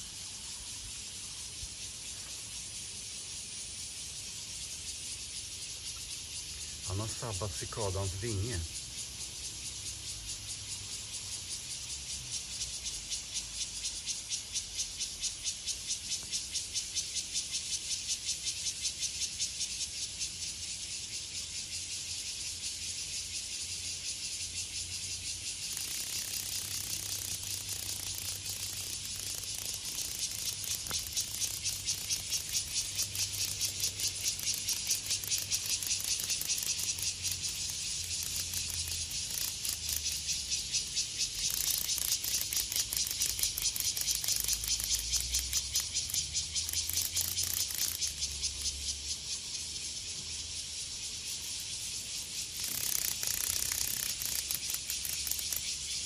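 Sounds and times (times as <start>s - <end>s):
cicada buzzing: 0.0s - 56.0s.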